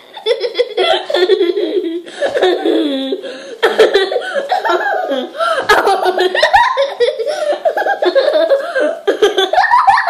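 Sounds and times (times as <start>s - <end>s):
girl giggling: 0.0s - 10.0s.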